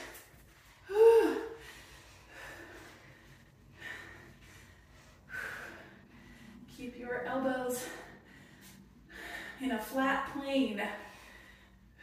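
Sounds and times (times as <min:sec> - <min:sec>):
heavy breathing: 0:00.0 - 0:06.8, 0:07.5 - 0:09.8, 0:10.8 - 0:12.0.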